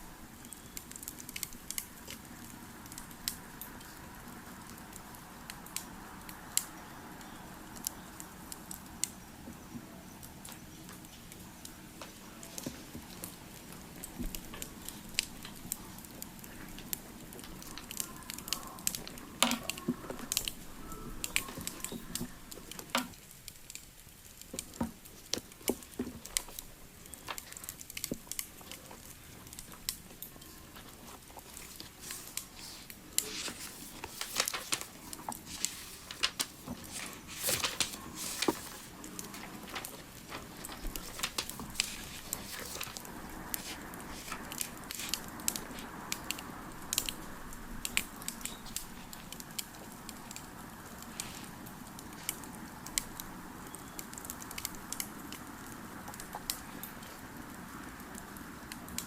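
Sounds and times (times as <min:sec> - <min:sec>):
soft steady hiss: 0:00.0 - 0:59.0
wood fire crackling: 0:00.0 - 0:59.0.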